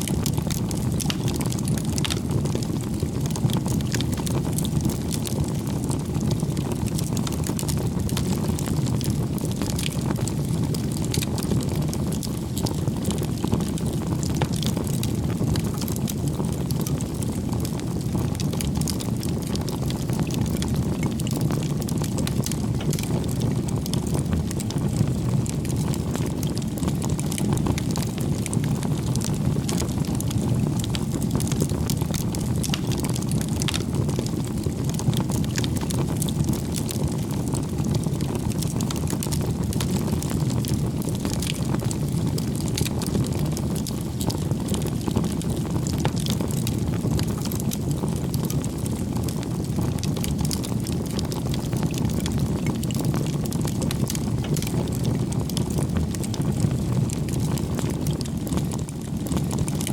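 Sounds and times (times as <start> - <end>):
fire crackling and popping: 0.0 - 59.9
fire flames rumbling: 0.0 - 59.9.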